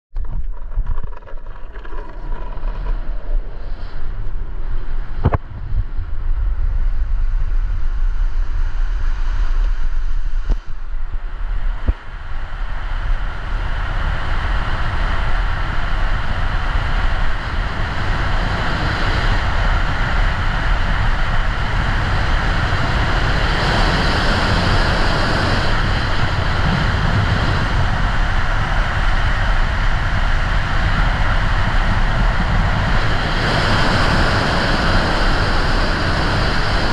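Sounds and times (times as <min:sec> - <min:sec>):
board wheels rumbling on asphalt: 0:00.1 - 0:36.9
wind rushing on microphone: 0:00.1 - 0:36.9.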